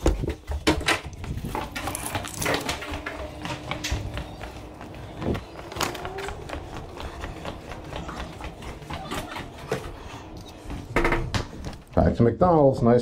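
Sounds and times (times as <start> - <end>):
footsteps climbing stairs: 0.0 - 12.4.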